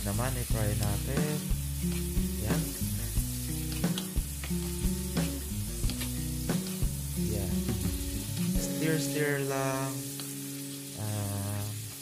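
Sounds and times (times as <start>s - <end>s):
background music with low notes: 0.0s - 12.0s
beef sizzling in a frying pan: 0.0s - 12.0s.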